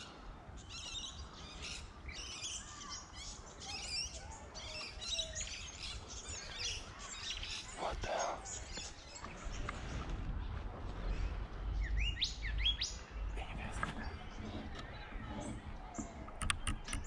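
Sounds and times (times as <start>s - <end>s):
bird chirping and twittering: 0.6s - 17.0s.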